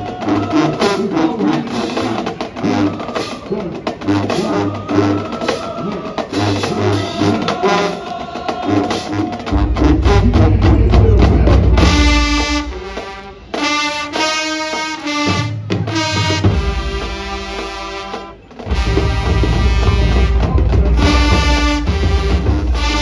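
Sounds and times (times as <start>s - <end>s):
drums beating: 0.0s - 23.0s
loud brass chords: 0.0s - 23.0s
marching band playing: 0.0s - 23.0s.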